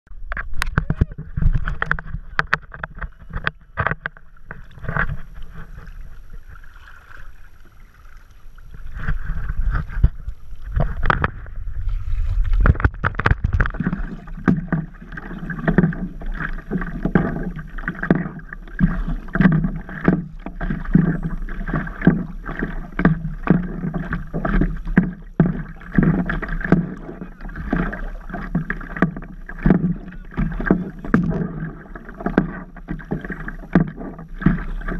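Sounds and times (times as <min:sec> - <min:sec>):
water slapping against paddleboard: 0:00.3 - 0:34.9.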